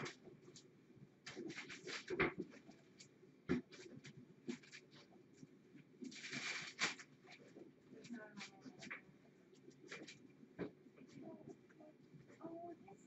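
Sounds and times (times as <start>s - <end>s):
paper rustling and scratching: 0.0s - 11.5s
cats scrambling: 0.0s - 12.4s.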